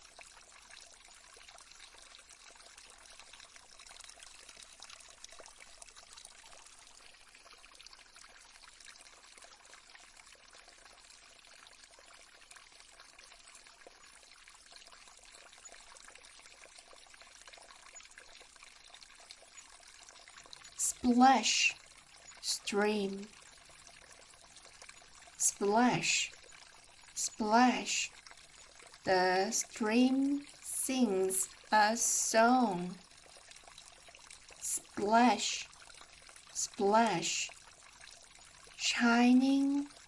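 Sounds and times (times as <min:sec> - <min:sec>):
stream trickling over stones: 0:00.0 - 0:40.0.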